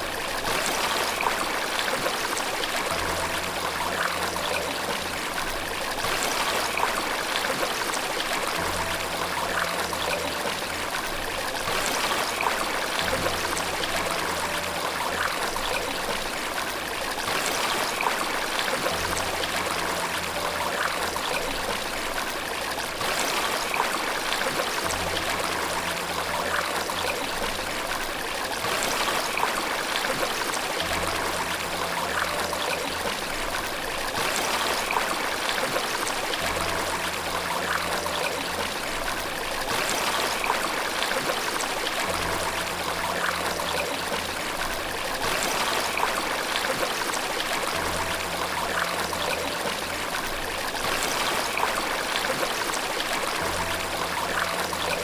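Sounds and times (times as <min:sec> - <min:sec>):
rushing and trickling water: 0:00.0 - 0:55.0
water splashes: 0:00.0 - 0:55.0.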